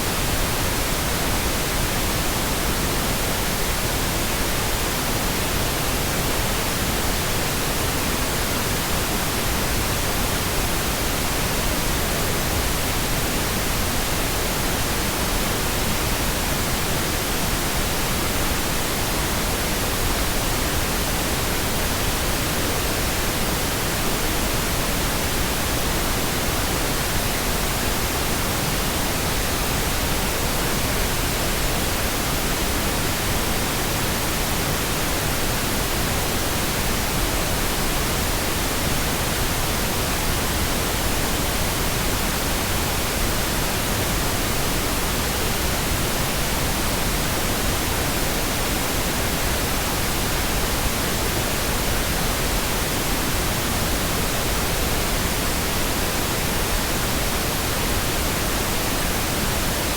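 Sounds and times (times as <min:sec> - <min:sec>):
pink noise hiss: 0:00.0 - 0:59.9.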